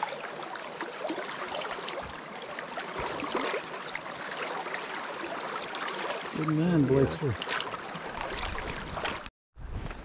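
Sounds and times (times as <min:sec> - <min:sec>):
creek water flowing: 0:00.0 - 0:09.3
small splashes and trickles: 0:00.0 - 0:09.3.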